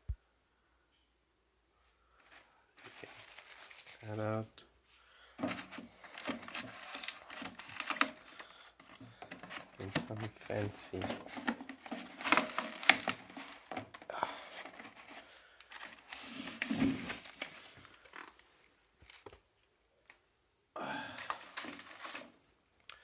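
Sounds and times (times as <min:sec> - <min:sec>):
packaging rustling and crinkling: 0:02.2 - 0:04.6, 0:05.4 - 0:20.2, 0:21.1 - 0:22.5.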